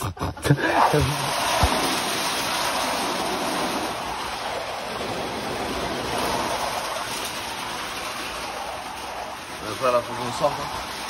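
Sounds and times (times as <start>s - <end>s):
heavy rain on a van: 0.4s - 11.0s.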